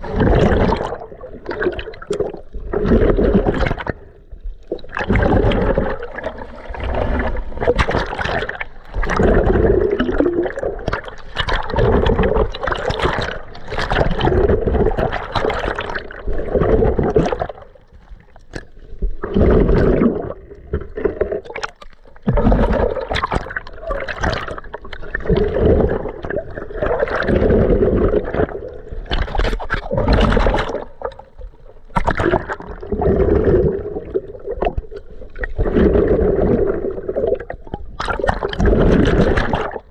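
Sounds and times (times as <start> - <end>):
muffled sloshing water underwater: 0.0 - 39.9.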